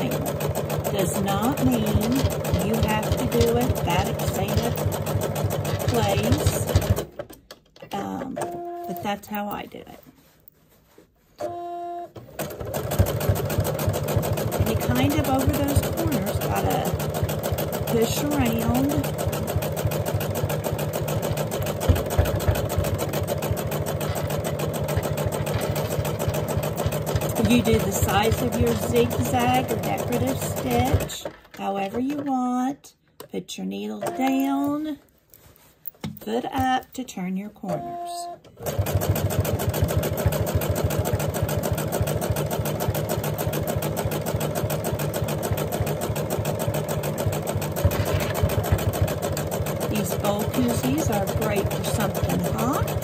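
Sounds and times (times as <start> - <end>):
sewing machine running: 0.0 - 7.2, 11.5 - 32.2, 37.8 - 53.0.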